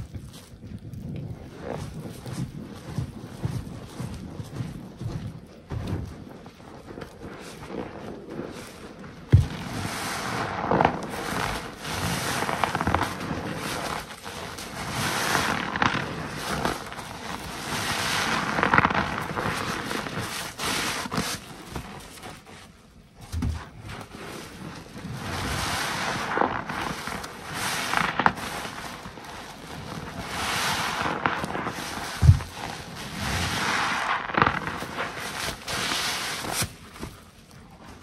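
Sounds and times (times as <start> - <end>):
soapy sponge squelching: 0.0 - 23.0, 23.6 - 38.0.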